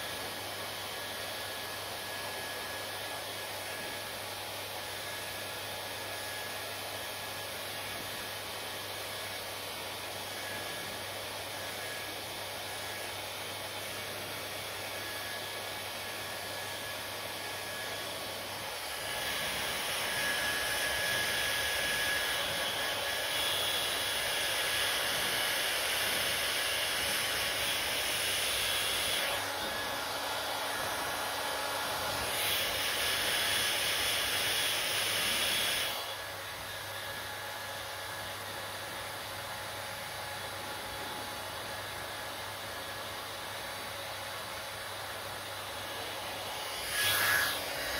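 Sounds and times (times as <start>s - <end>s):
hair dryer blowing: 0.0s - 47.9s.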